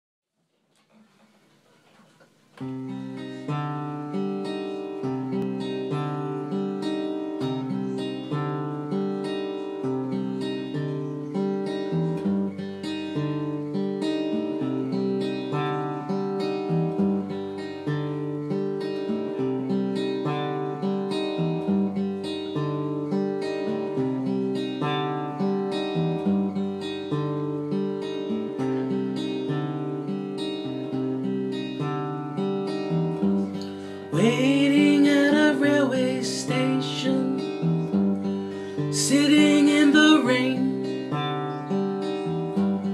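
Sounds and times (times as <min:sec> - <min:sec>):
acoustic guitar strumming: 0:00.9 - 0:42.9.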